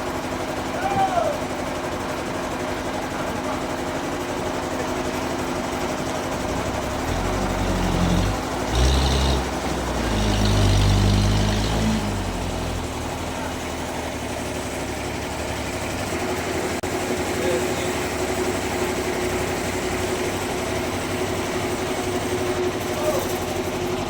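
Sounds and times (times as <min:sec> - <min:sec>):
sawmill machinery hum: 0:00.0 - 0:24.0
low engine drone: 0:04.2 - 0:24.0.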